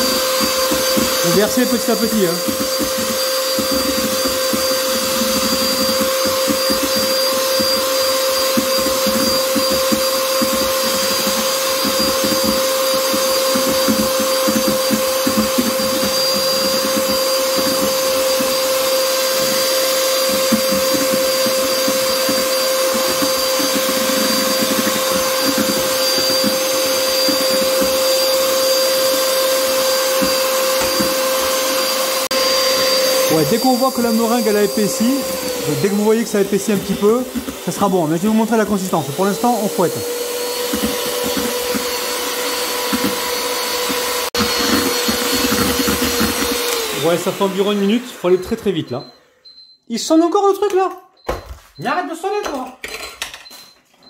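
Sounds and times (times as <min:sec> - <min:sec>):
electric hand mixer whining: 0:00.0 - 0:49.6.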